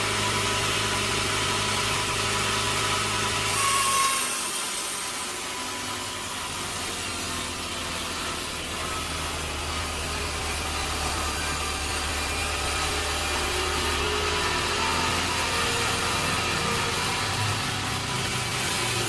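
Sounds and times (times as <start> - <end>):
saw engine humming: 0.0 - 3.6, 4.9 - 19.0
saw cutting wood hiss: 0.0 - 19.0.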